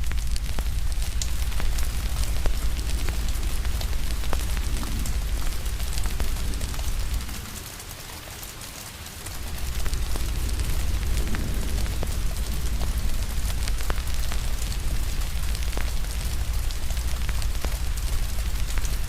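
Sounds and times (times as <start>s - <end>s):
low rumble: 0.0s - 7.7s, 9.3s - 19.0s
fire crackling: 0.0s - 19.0s
rain hiss: 0.0s - 19.0s.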